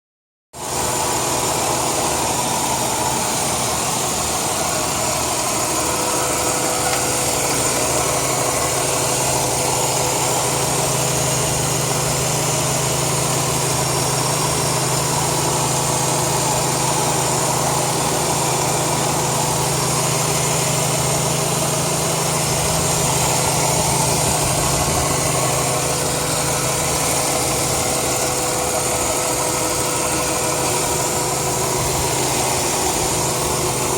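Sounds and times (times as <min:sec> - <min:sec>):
car engine idling: 0:00.6 - 0:33.9.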